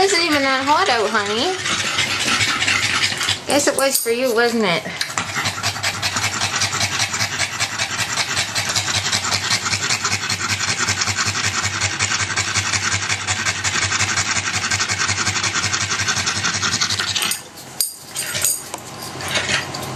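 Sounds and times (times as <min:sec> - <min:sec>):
dog panting hard: 0:00.0 - 0:19.5.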